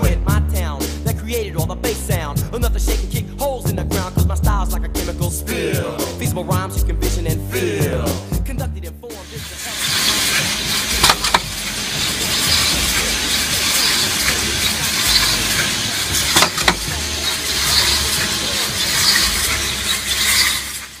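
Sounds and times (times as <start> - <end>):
low machine rumble: 0.1 - 21.0.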